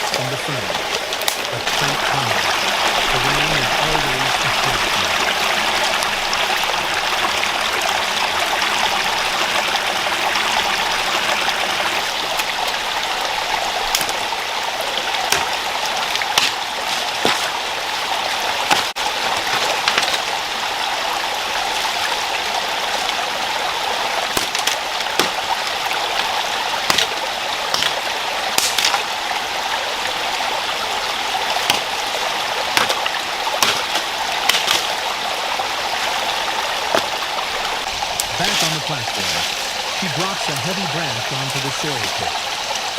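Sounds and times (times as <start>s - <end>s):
stream running over rocks: 0.0s - 42.9s.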